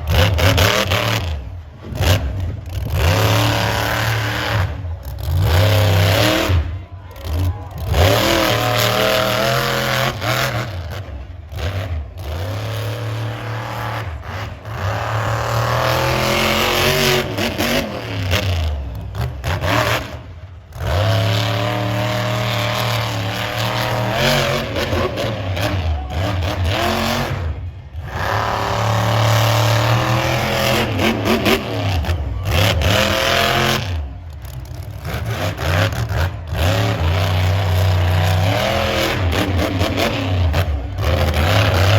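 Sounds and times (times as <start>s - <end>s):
monster truck engine revving: 0.0s - 41.9s.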